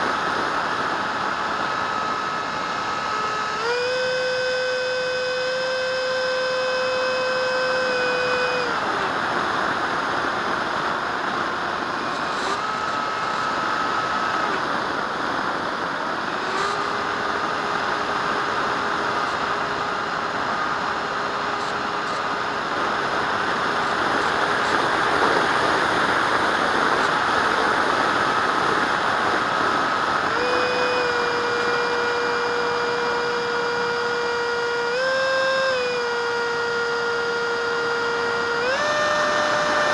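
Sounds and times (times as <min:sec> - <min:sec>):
electric ducted fan whining: 0:00.0 - 0:39.9.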